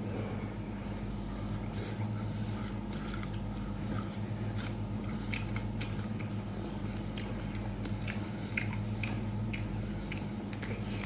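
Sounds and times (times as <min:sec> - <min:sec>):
steady low hum: 0:00.0 - 0:11.0
crackling pork skin crunching: 0:01.1 - 0:11.0.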